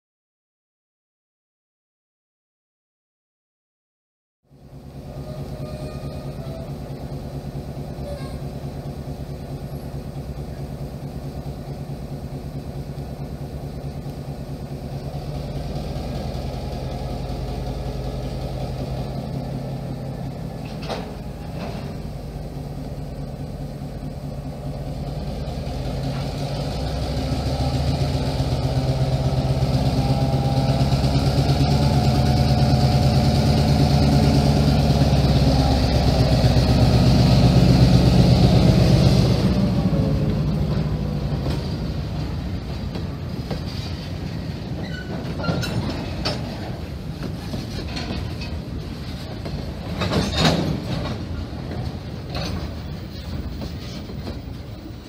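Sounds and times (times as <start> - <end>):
diesel locomotive engine running: 4.4 - 55.0.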